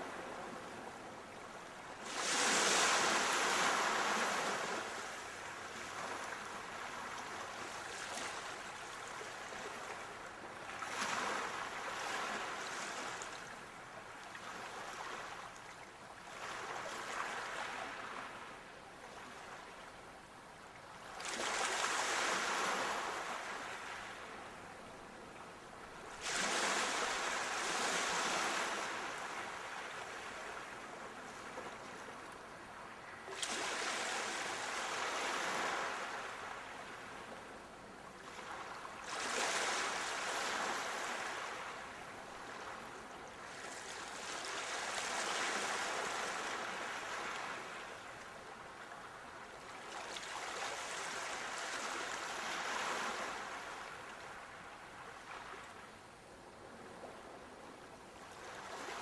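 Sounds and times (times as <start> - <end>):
sea waves breaking on shore: 0.0 - 19.9, 20.8 - 59.0.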